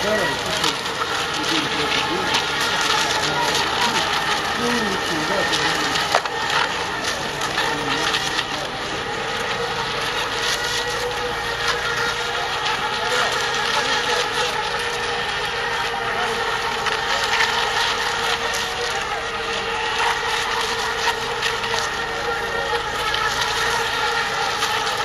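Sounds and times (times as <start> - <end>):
electric model boats whining: 0.0 - 25.0.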